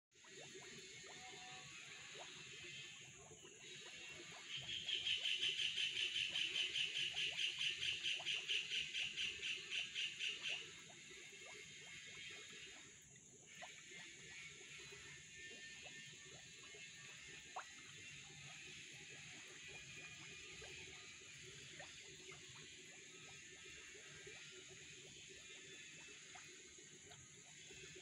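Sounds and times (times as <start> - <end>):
faint water splashing: 0.2 - 28.0.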